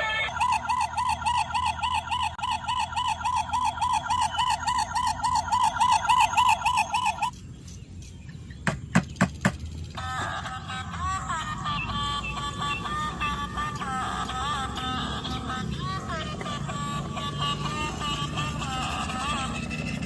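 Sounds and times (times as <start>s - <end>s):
toy siren warbling: 0.0s - 7.3s, 10.0s - 20.0s.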